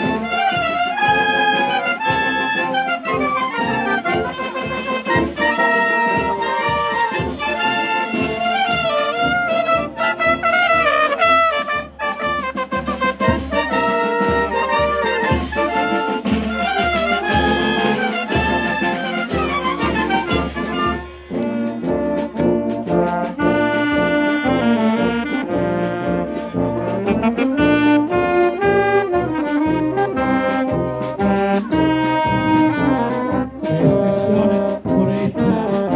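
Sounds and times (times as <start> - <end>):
drum and cymbal beat: 0.0 - 35.9
wind band playing a march: 0.0 - 35.9.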